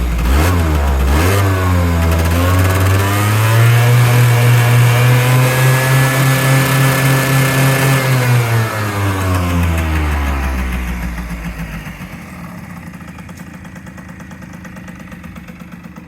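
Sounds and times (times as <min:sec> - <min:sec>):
scooter engine revving: 0:00.0 - 0:16.0.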